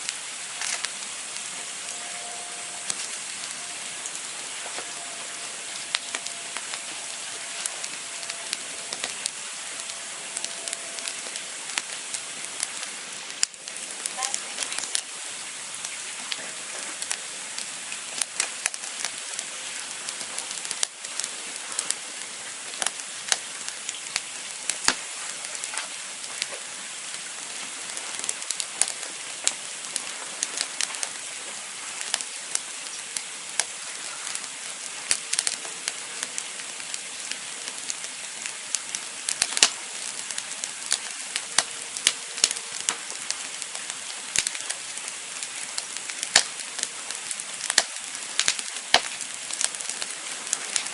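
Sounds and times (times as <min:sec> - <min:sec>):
campfire hissing: 0:00.0 - 0:50.9
wood crackling and popping: 0:00.0 - 0:50.9.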